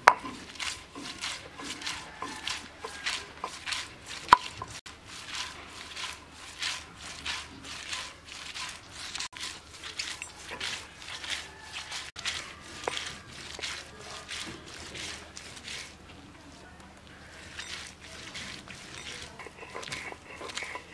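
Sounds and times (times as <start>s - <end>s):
stone roller crushing onions: 0.0s - 20.9s.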